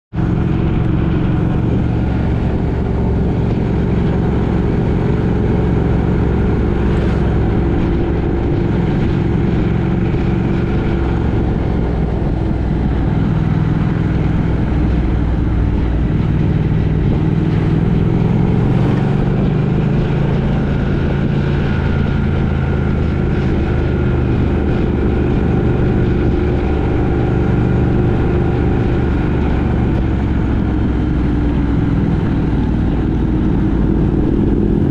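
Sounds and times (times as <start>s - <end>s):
road noise: 0.0s - 34.9s
vehicle engine drone: 0.0s - 34.9s.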